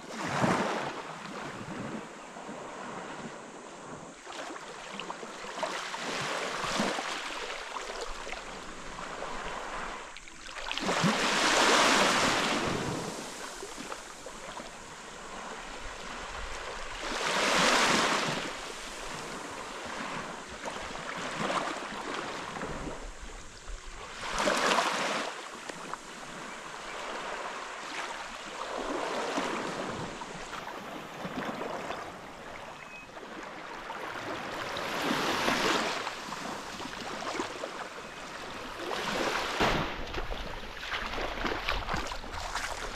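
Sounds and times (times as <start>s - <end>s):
sea waves washing onto beach: 4.3s - 32.6s, 33.2s - 42.9s.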